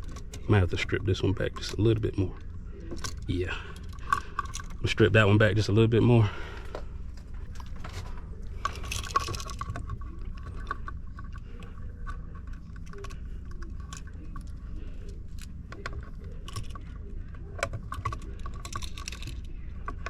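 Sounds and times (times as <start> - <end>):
low background hum: 0.0 - 20.0
wire strippers clicking and scraping: 0.0 - 20.0.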